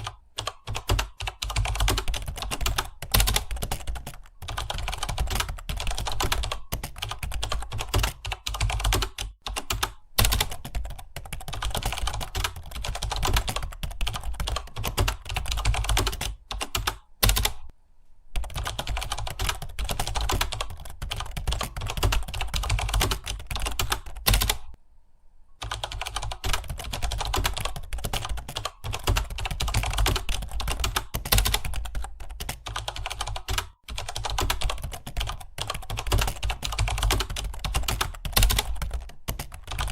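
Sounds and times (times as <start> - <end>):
typing on computer keyboard: 0.0 - 17.7, 18.4 - 24.8, 25.6 - 39.9.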